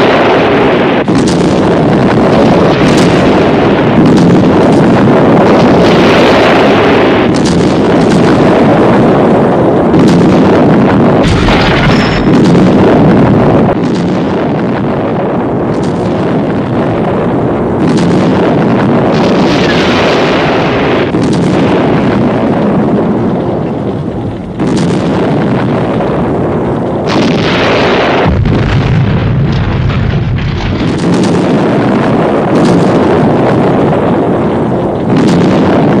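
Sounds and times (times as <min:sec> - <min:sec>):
loud explosions: 0:00.0 - 0:36.0
deep low rumble: 0:00.1 - 0:36.0.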